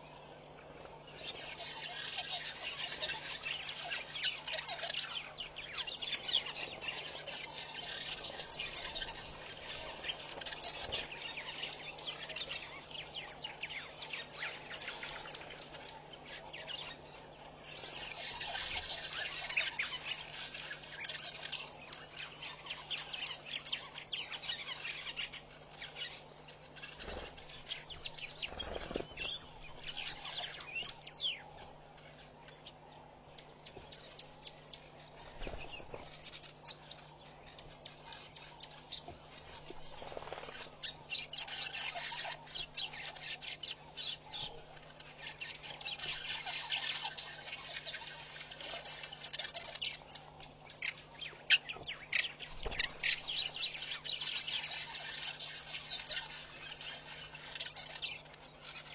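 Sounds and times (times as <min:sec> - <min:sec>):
faint steady low hum: 0:00.0 - 0:58.9
small birds chirping: 0:00.0 - 0:58.9.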